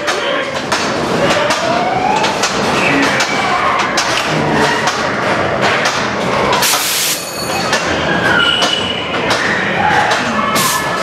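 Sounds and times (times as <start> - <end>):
ride car rattling on track: 0.0 - 11.0.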